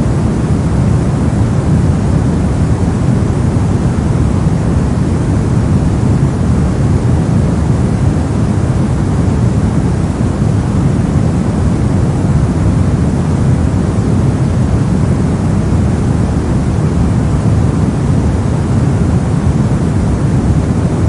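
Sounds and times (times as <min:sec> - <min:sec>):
deep rushing white noise: 0:00.0 - 0:21.0.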